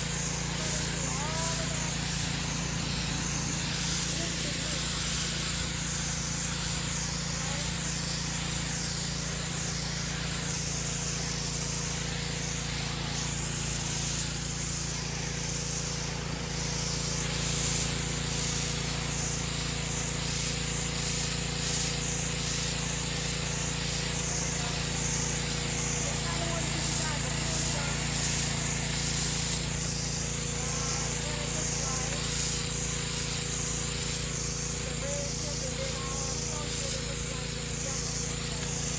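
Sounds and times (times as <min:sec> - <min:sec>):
high-pressure spray hissing: 0:00.0 - 0:38.9
pressure washer motor humming: 0:00.0 - 0:38.9.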